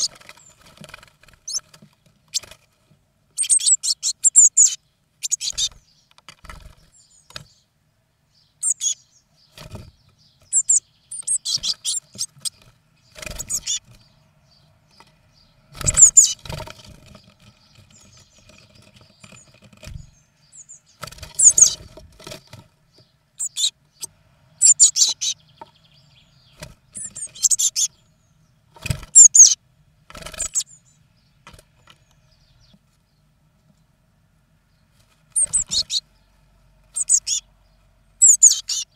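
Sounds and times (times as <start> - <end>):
bird chicks chirping: 0.0 - 38.9.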